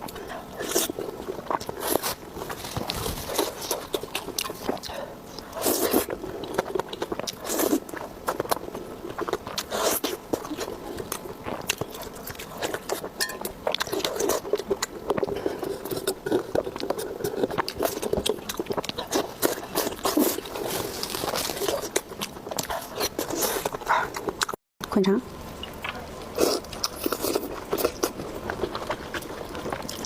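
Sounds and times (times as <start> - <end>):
person chewing food: 0.0 - 24.6, 25.6 - 30.0.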